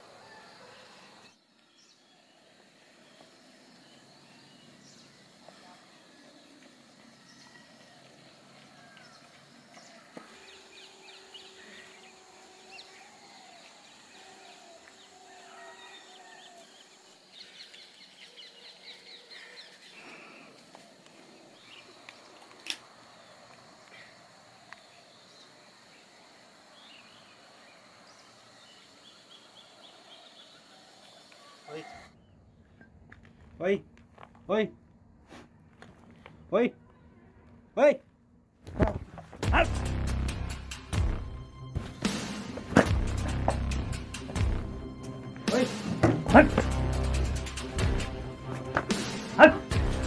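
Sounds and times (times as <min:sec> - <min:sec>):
birds chirping: 0:00.0 - 0:38.1, 0:39.2 - 0:50.0.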